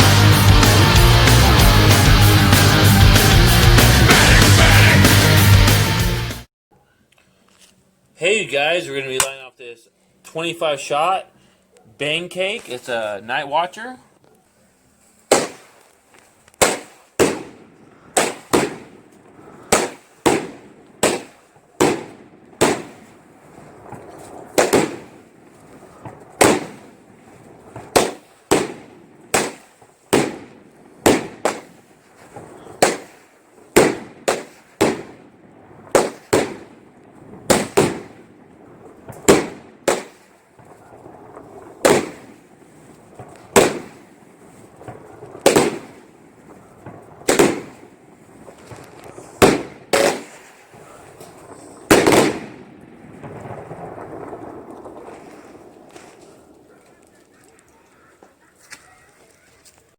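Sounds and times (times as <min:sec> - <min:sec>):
firework bangs: 0:00.0 - 0:05.5, 0:15.1 - 0:58.6.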